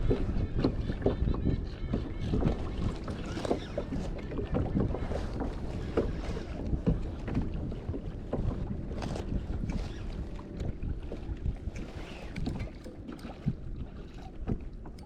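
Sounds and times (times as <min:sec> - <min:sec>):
water slapping against kayak hull: 0:00.0 - 0:15.0
wind on microphone: 0:00.0 - 0:15.0.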